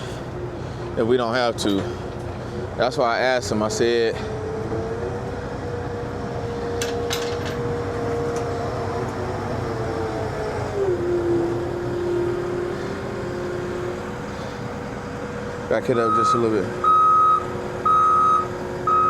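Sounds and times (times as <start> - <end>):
diesel machinery running with whine: 0.0 - 19.0.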